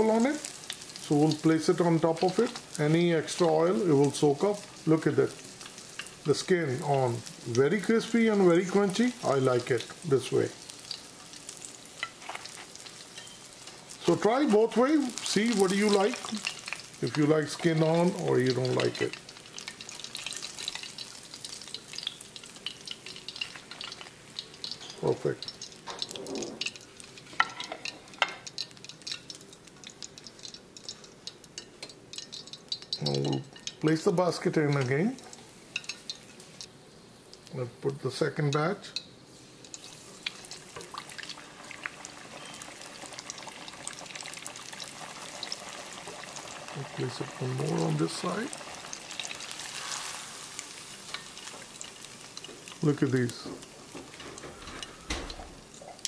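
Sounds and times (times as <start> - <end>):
oil sizzling in deep fryer: 0.0 - 56.0
small crackles and pops: 0.1 - 37.6, 38.9 - 56.0.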